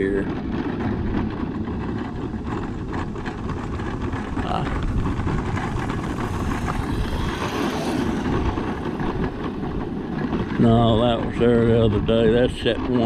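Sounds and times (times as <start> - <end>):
road noise from vehicle: 0.0 - 13.0
wind buffeting microphone: 0.0 - 13.0.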